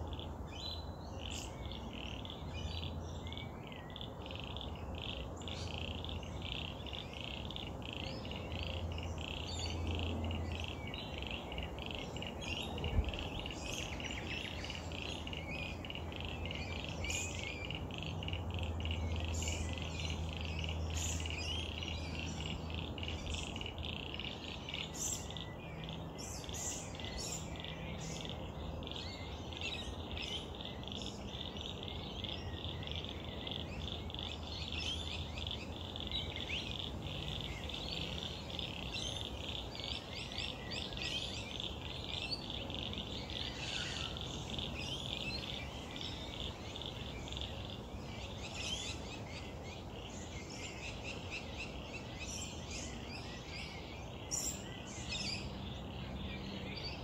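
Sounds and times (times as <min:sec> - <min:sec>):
birds chirping: 0:00.0 - 0:57.0
frogs trilling: 0:00.0 - 0:57.0.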